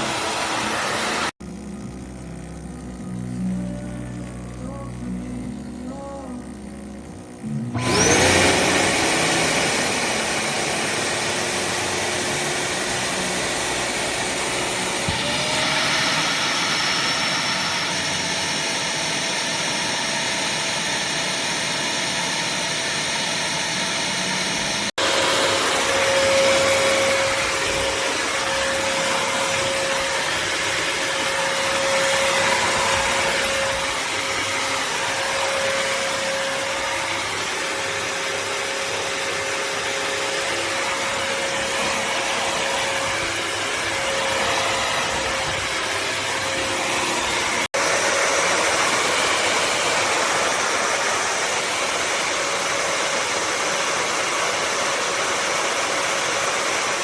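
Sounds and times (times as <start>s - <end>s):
wet-dry vacuum running: 0.0s - 57.0s.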